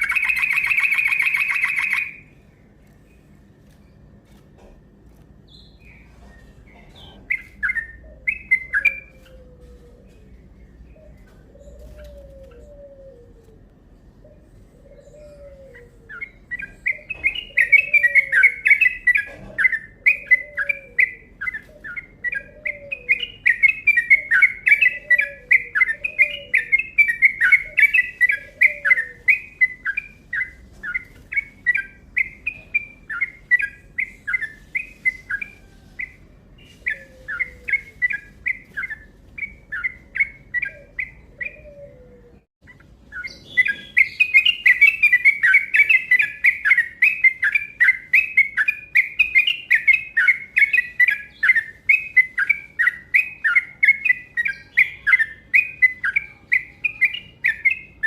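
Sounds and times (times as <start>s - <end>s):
bird singing fast chirps: 0.0s - 2.5s, 6.9s - 9.3s, 15.0s - 41.8s, 42.6s - 58.0s
lower falling bird call: 0.0s - 2.6s, 7.1s - 57.8s.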